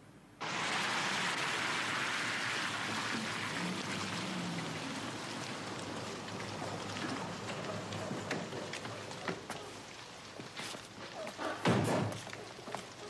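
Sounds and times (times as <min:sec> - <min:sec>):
steady rain falling: 0:00.4 - 0:13.0.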